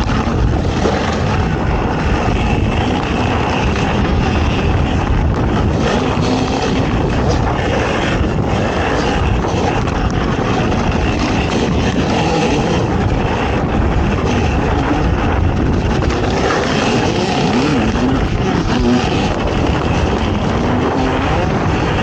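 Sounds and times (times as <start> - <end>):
atv engine revving: 0.0 - 22.0
wind noise on microphone: 0.0 - 22.0.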